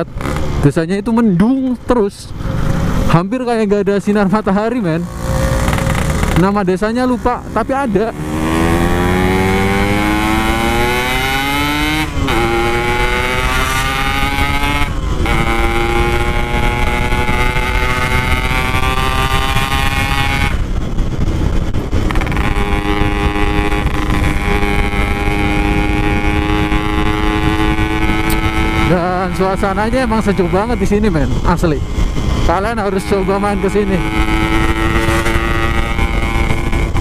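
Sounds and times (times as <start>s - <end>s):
motorcycle engine revving: 0.0s - 0.8s, 3.8s - 37.0s
wind rumble: 0.0s - 37.0s.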